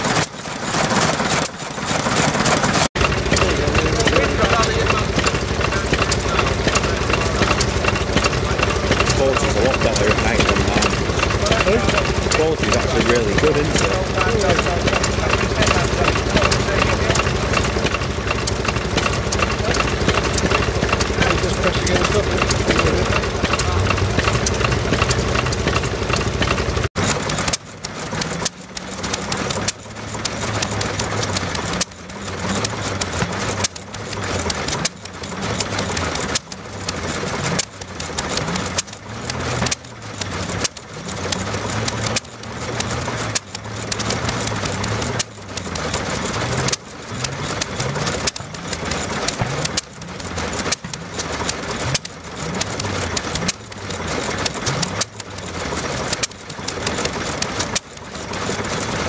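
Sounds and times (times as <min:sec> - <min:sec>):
diesel stationary engine beating: 0:00.0 - 0:59.0
small engine running: 0:00.0 - 0:59.0.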